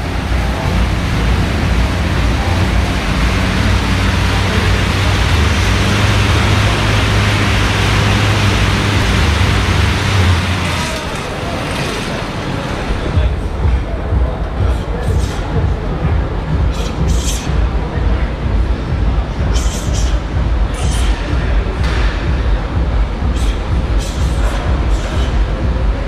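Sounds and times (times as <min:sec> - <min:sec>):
air bike fan whooshing: 0:00.0 - 0:26.0
low hum: 0:00.0 - 0:26.0.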